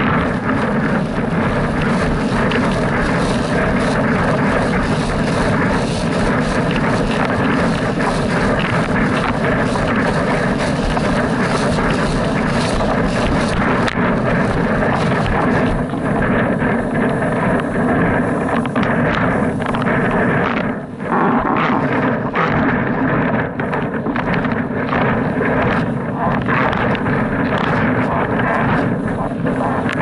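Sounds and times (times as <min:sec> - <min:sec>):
water rushing under board: 0:00.0 - 0:30.0
wind buffeting microphone: 0:00.0 - 0:30.0.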